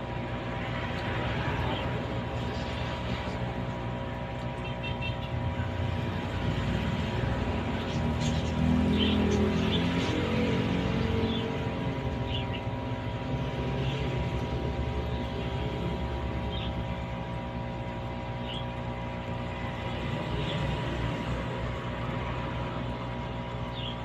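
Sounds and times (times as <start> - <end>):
air pump humming: 0.0 - 24.0.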